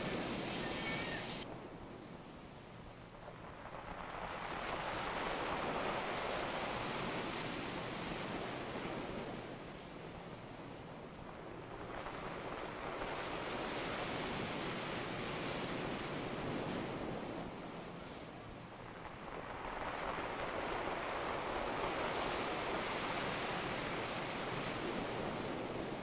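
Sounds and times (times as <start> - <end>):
ocean surf breaking: 0.0 - 2.1, 2.8 - 26.0.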